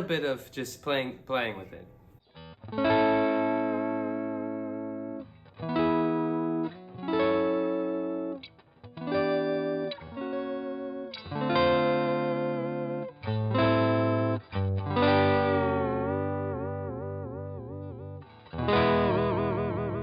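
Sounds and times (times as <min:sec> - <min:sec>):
electric guitar chords with wavering pitch: 0:02.2 - 0:20.0.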